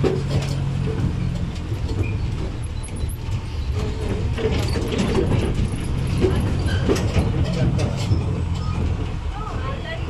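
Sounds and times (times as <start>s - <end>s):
bus engine rumble: 0.0s - 10.0s
road noise: 0.0s - 10.0s.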